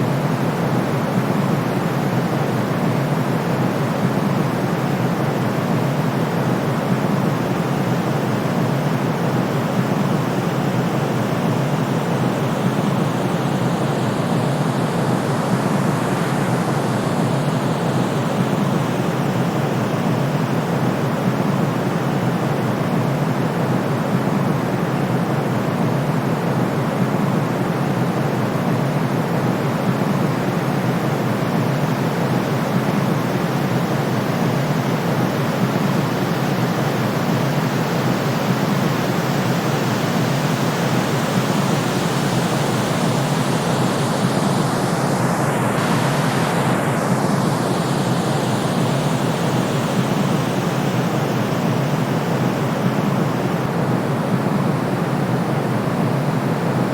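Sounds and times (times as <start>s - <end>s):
steady white noise hiss: 0.0s - 56.9s.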